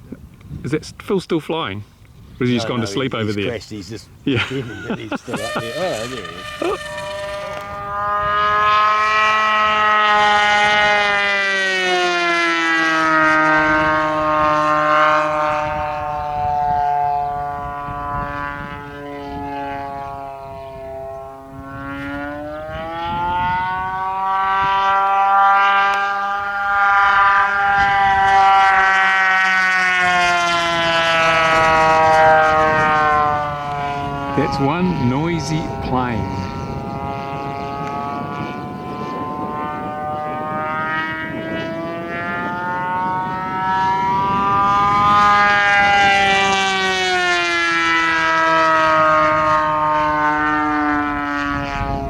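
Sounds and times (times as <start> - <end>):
model airplane engine buzzing: 2.0 - 52.0.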